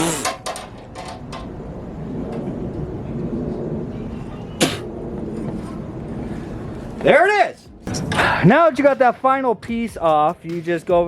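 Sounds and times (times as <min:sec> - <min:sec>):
low steady rumble: 0:00.5 - 0:10.1.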